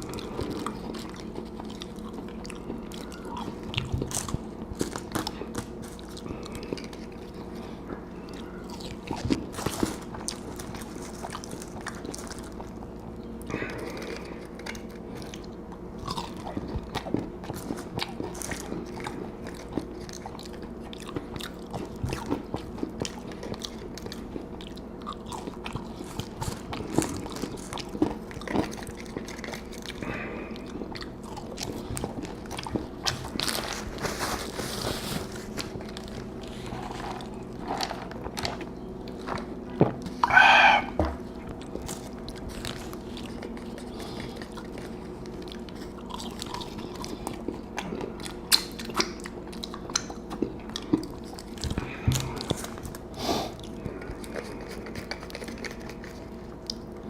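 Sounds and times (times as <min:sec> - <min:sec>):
faint steady hum: 0:00.0 - 0:57.0
person biting and crunching food: 0:00.0 - 0:57.0.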